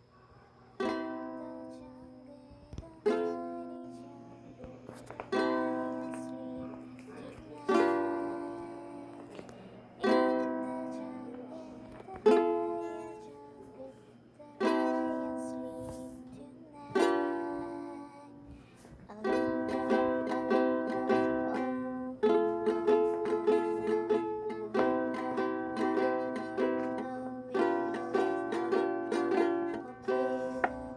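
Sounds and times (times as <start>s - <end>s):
ukulele strumming: 0.8s - 18.4s, 19.1s - 30.9s.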